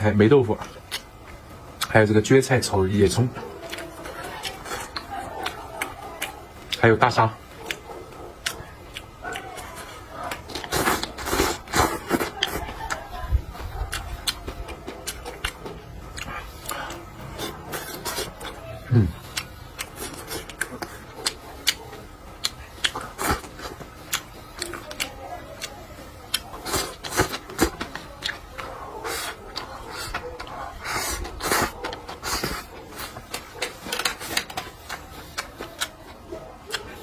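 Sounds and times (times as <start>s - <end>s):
person chewing: 0.6s - 2.0s, 3.4s - 37.0s.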